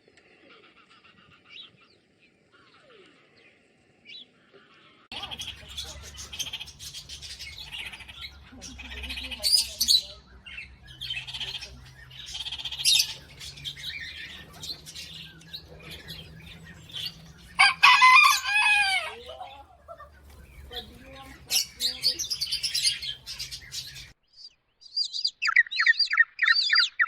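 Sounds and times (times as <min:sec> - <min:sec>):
birds chirping and calling: 0:00.1 - 0:27.0.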